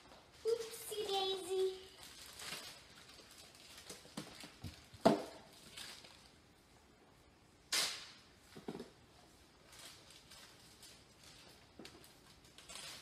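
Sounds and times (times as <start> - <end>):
plastic bags rustling: 0.0 - 6.6, 8.4 - 13.0.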